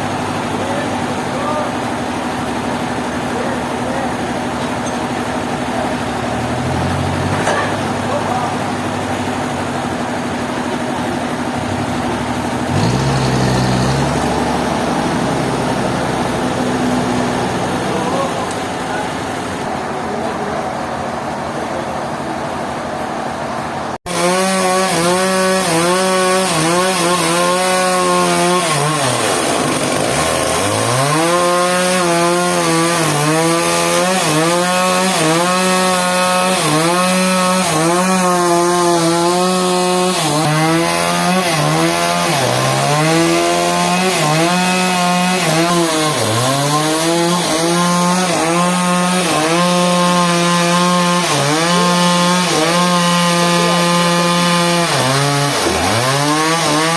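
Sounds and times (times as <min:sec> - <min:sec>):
chainsaw cutting log: 0:00.0 - 0:19.7, 0:24.1 - 0:56.9.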